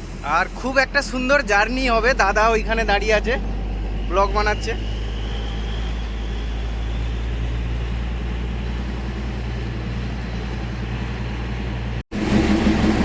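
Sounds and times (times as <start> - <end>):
diesel locomotive droning: 0.0 - 13.0.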